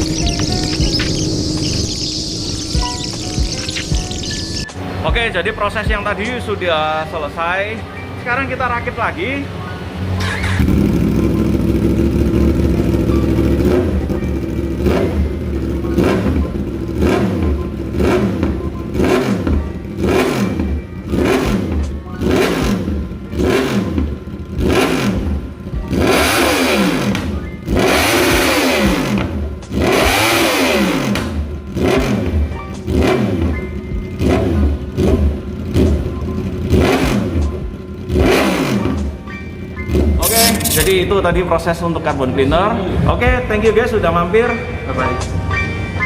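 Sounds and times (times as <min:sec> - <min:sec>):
motorcycle engine revving: 0:00.0 - 0:06.6, 0:09.9 - 0:41.1.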